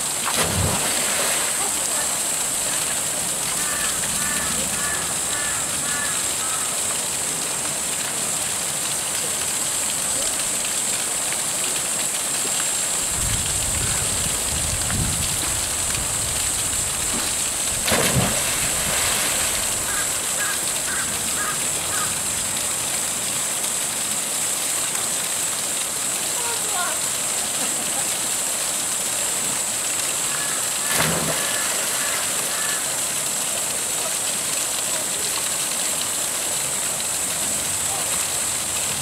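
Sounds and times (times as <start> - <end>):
small waterfall into rocky pool: 0.0 - 39.0.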